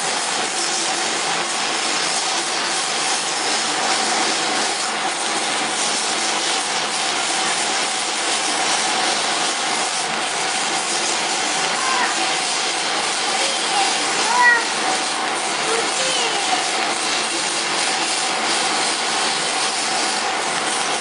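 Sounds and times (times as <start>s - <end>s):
laser cutter hiss: 0.0s - 21.0s.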